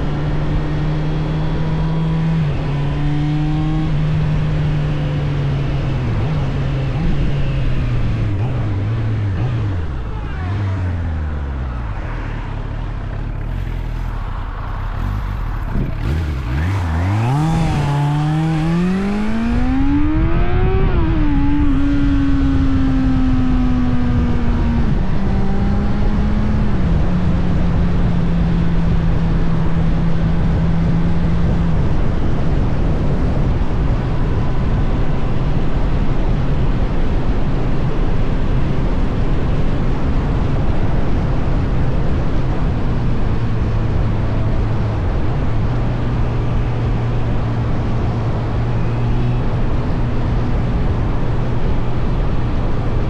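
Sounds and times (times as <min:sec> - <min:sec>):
motorcycle engine accelerating: 0:00.0 - 0:53.0
wind noise: 0:00.0 - 0:53.0.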